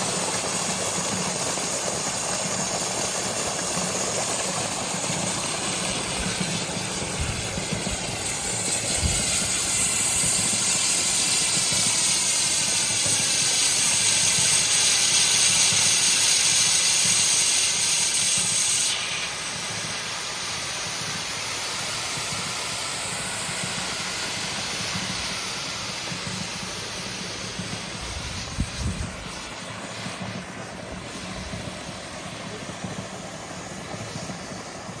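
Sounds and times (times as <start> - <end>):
steam hissing from a nozzle: 0.0 - 35.0.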